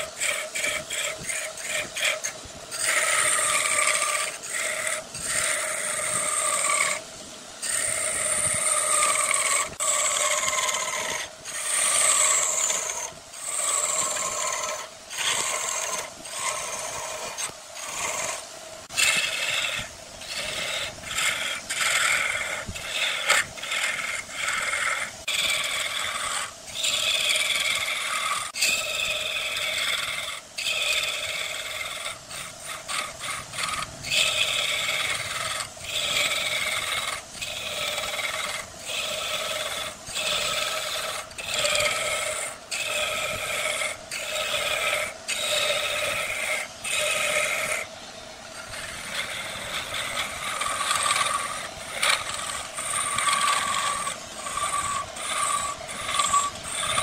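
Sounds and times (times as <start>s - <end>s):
turning tool scraping wood: 0.0s - 57.0s
wood lathe whine: 0.0s - 57.0s.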